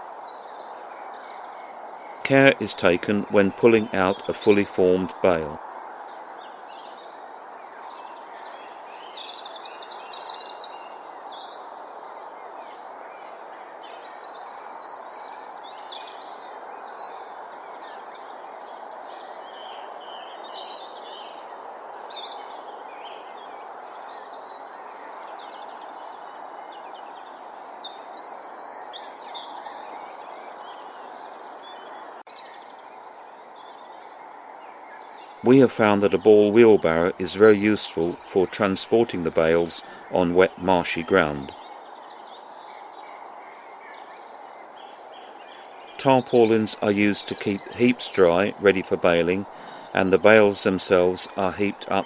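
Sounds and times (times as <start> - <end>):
small birds chirping: 0.0 - 52.0
steady background hiss: 0.0 - 52.0.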